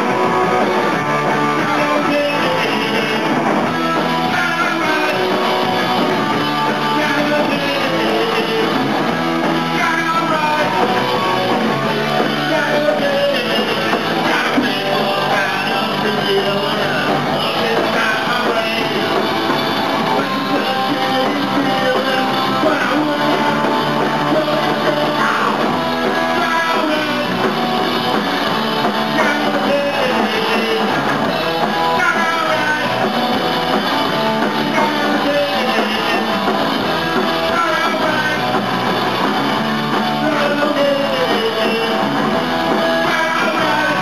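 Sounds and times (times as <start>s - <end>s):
bass guitar: 0.0s - 44.0s
drums: 0.0s - 44.0s
electric guitar: 0.0s - 44.0s
person singing: 0.0s - 44.0s.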